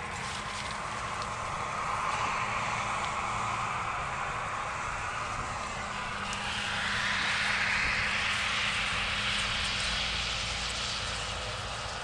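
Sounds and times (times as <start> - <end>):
rushing noise: 0.0 - 12.0
vehicle engine hum: 0.0 - 12.0.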